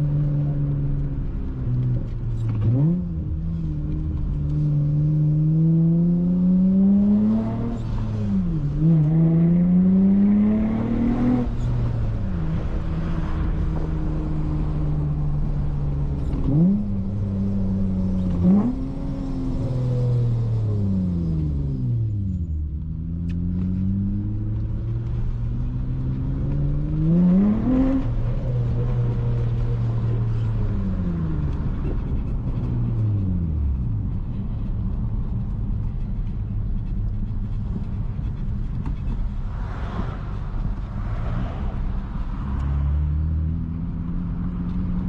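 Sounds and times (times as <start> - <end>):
loud car engine and exhaust revving: 0.0 - 45.0.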